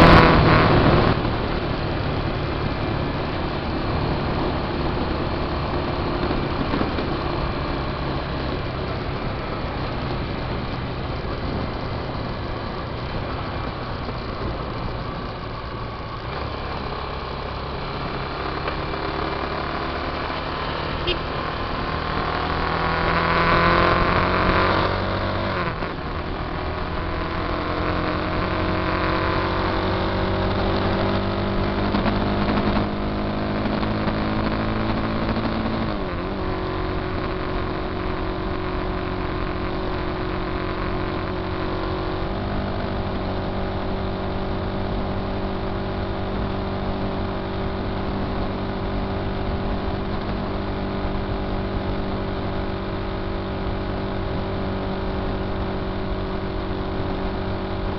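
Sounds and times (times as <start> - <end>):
motorcycle engine shifting gears: 0.0 - 57.9.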